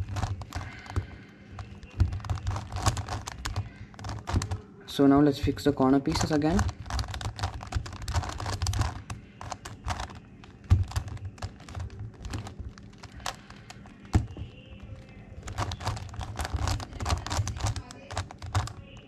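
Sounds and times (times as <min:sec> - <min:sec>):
plastic puzzle clicking: 0:00.0 - 0:04.6, 0:06.0 - 0:19.0.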